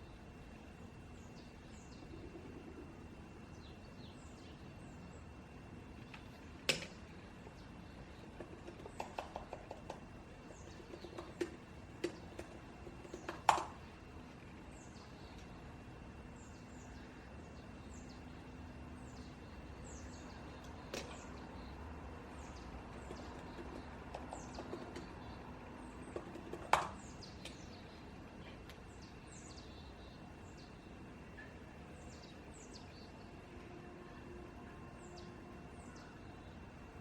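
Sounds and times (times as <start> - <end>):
faint room hum: 0.0 - 37.0.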